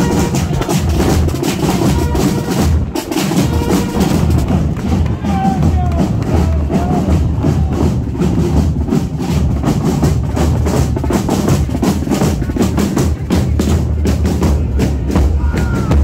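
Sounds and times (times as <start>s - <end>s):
bass drum: 0.0s - 16.0s
marching snare drums: 0.0s - 16.0s.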